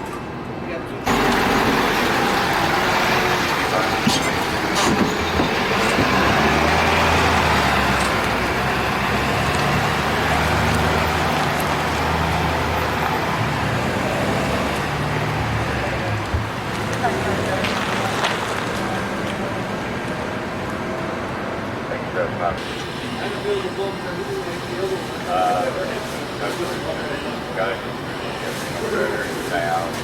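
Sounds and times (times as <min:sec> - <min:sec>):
ambulance engine humming: 0:00.0 - 0:30.0
street traffic noise: 0:00.0 - 0:30.0.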